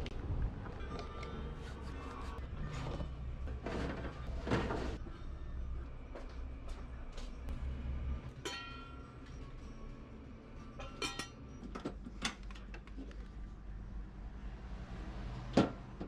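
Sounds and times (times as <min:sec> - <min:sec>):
low steady hum: 0:00.0 - 0:15.7.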